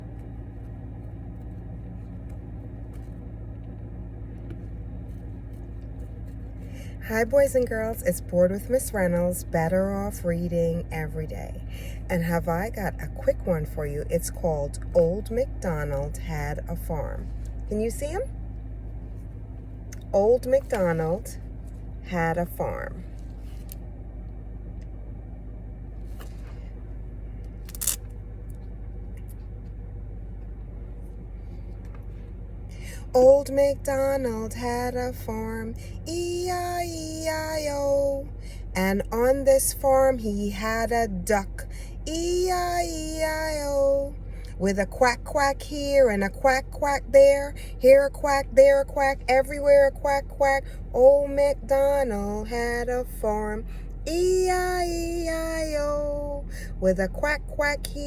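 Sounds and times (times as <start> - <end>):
car engine idling: 0.0 - 58.0
low background hum: 0.0 - 58.0.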